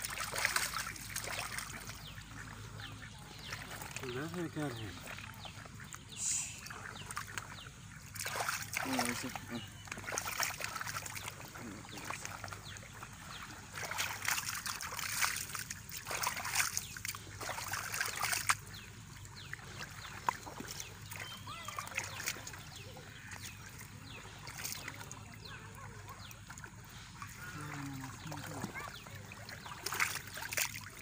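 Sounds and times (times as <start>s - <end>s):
hands sloshing in muddy water: 0.0s - 31.0s.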